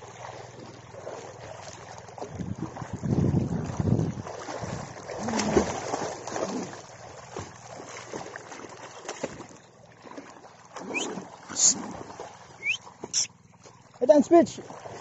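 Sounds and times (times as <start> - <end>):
dog swimming splashing water: 0.0 - 15.0.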